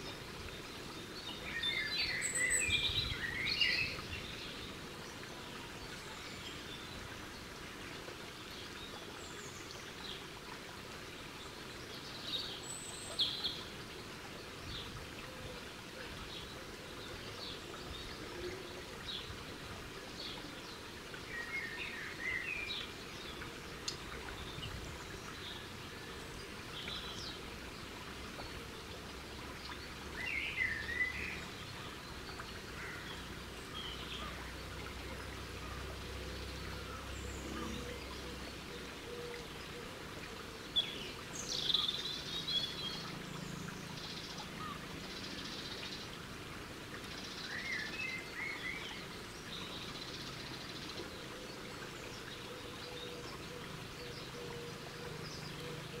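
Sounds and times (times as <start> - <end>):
songbirds chirping: 0.0 - 56.0
steady background hiss: 0.0 - 56.0.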